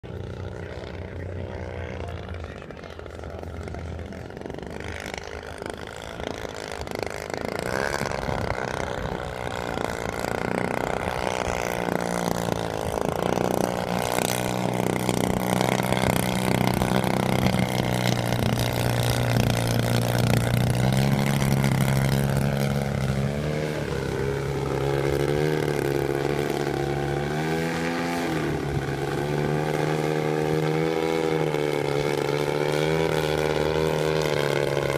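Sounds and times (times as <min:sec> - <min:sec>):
model airplane engine: 0:00.0 - 0:34.9.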